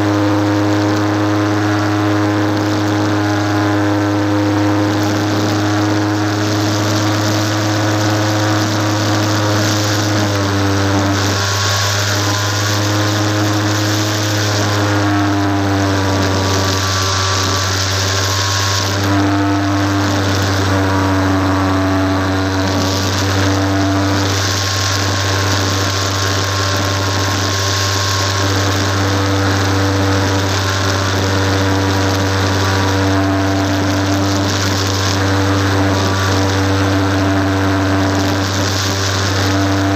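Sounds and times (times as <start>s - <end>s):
electric motor and propeller whine: 0.0s - 39.9s
rushing air: 5.0s - 39.9s.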